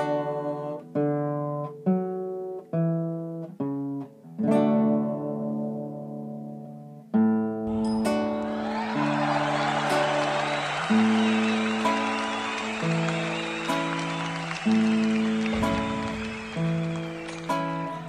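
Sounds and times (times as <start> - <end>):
classical guitar chords ringing: 0.0 - 18.0.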